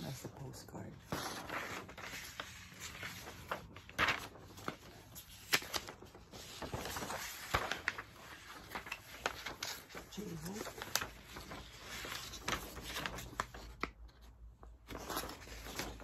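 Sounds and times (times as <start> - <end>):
paper posters rustling: 0.0 - 16.0.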